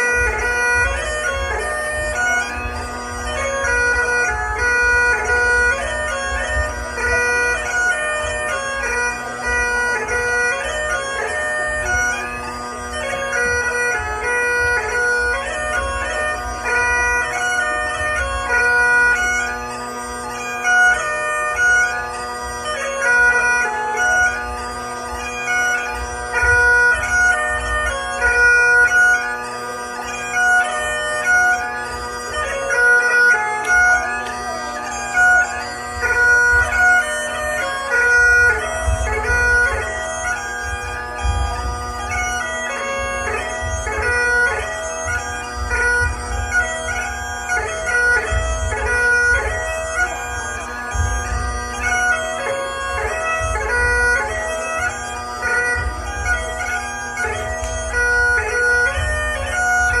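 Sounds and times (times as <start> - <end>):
bagpipes playing dance tune: 0.0 - 60.0.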